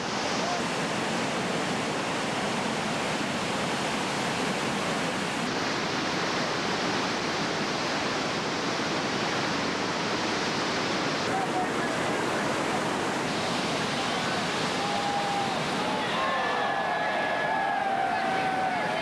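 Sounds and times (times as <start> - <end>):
river water rushing over falls: 0.0 - 19.0.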